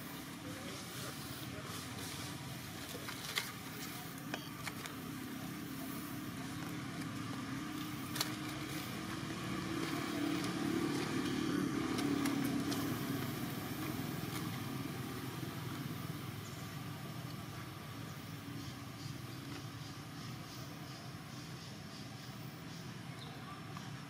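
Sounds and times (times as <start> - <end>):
vehicle engine passing: 0.0 - 21.6.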